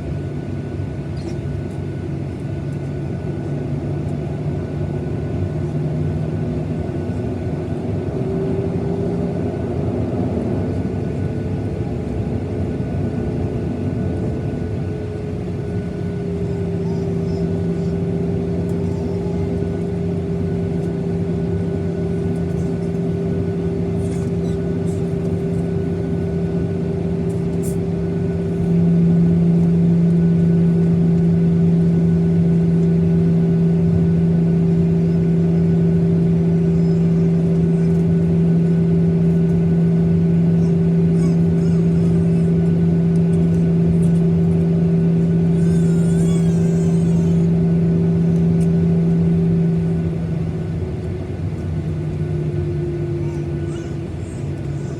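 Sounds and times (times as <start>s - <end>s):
jet engine drone in cabin: 0.0s - 54.9s.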